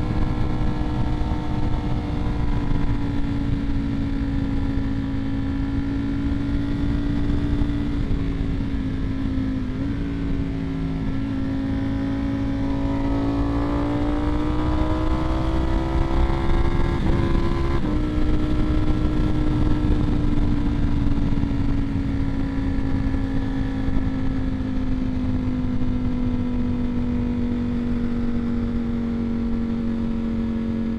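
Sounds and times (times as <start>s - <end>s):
motorcycle engine running: 0.0s - 30.9s
wind rumble: 0.0s - 30.9s.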